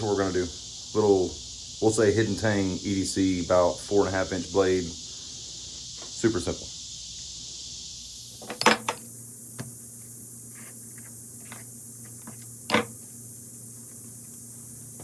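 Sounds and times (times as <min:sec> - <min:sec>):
high hiss: 0:00.0 - 0:15.0
steady hum: 0:00.0 - 0:15.0.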